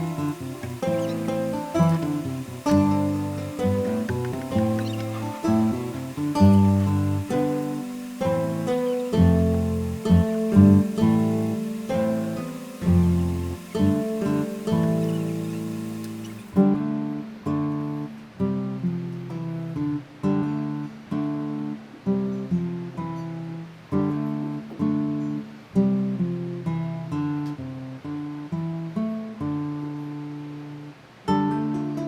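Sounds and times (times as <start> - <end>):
fingerpicked acoustic guitar: 0.0 - 32.0.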